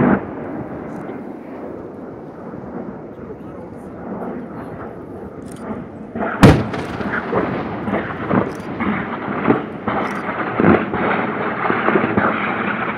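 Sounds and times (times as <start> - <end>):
cannon firing burst: 0.0 - 3.1, 3.9 - 12.9
rolling rumble with booms: 0.0 - 12.9.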